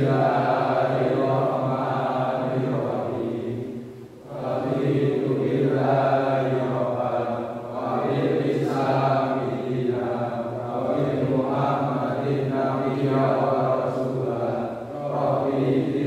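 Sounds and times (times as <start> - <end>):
students reciting prayer in unison: 0.0 - 16.0.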